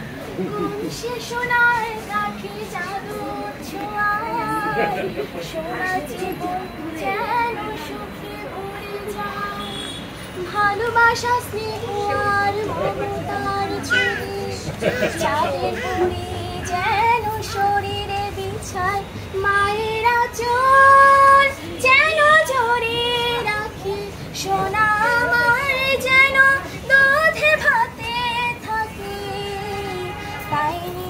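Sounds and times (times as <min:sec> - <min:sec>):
high voice singing unaccompanied: 0:00.4 - 0:31.0.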